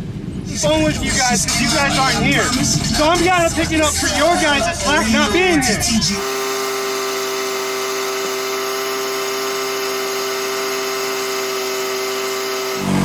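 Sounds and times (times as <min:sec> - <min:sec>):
steady motor whine: 0:00.0 - 0:13.0.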